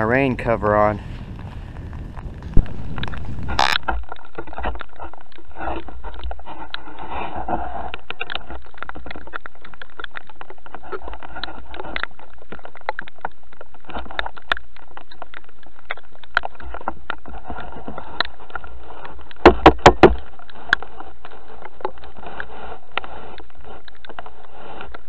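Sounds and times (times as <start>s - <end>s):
heavy rain pattering on camera: 0.0s - 25.0s.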